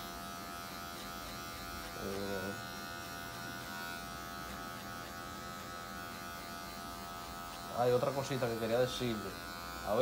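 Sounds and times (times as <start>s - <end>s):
electric hair clippers buzzing: 0.0s - 10.0s.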